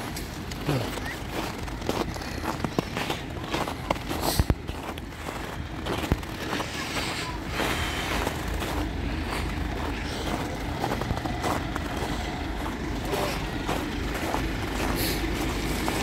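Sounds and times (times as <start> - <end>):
diesel engine low rumble: 0.0 - 16.0.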